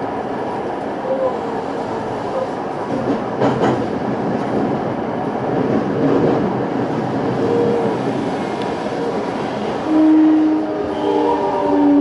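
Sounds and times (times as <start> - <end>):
train wheels rumbling on rails: 0.0 - 12.0
rail joint clicks: 0.4 - 12.0.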